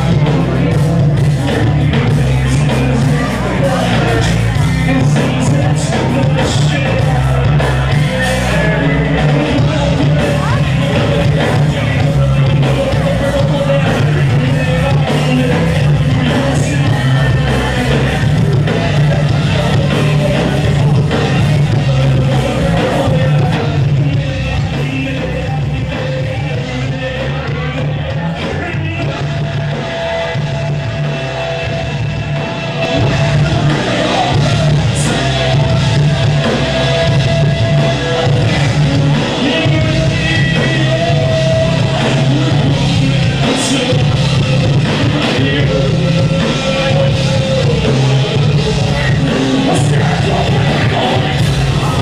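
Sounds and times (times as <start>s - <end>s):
live rock band playing: 0.0s - 52.0s.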